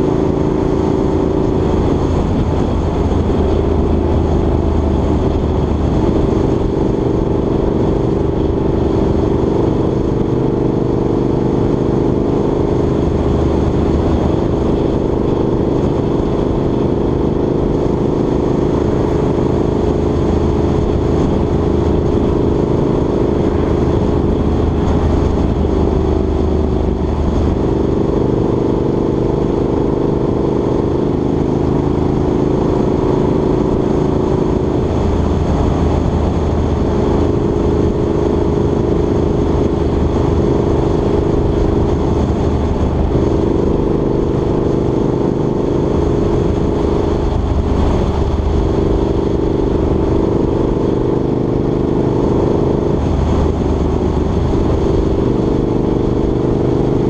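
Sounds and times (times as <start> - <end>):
car engine drone: 0.0 - 57.0
road and wind noise: 0.0 - 57.0.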